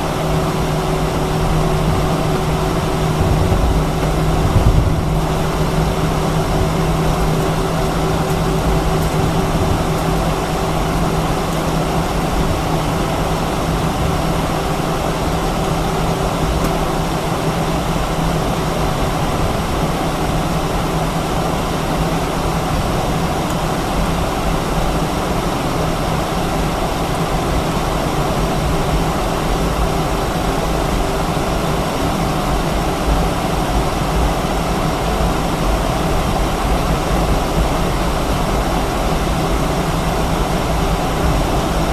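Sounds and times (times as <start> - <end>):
jet engines idling from cabin: 0.0 - 41.9.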